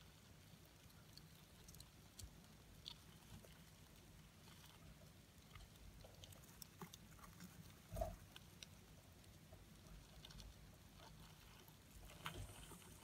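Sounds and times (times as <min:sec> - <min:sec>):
cockroaches crawling and chewing: 0:00.0 - 0:13.0.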